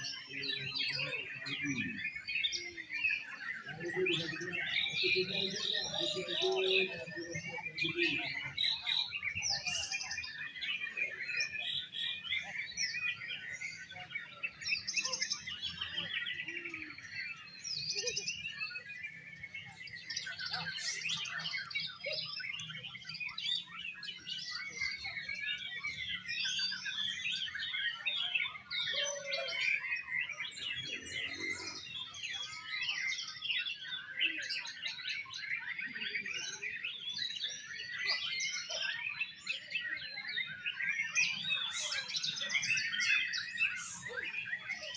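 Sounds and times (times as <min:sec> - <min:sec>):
birds singing whistles and chirps: 0:00.0 - 0:44.9.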